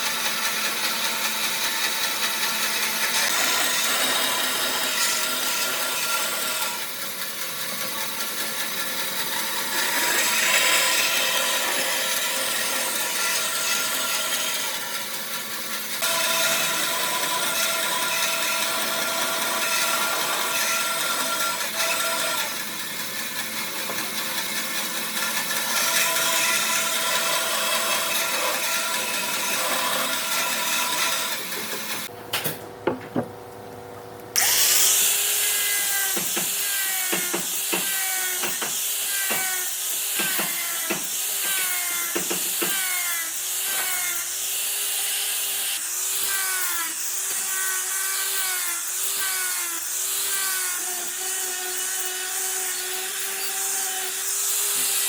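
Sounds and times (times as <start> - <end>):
power tool whining on wood: 0.0 - 32.2, 34.4 - 55.0.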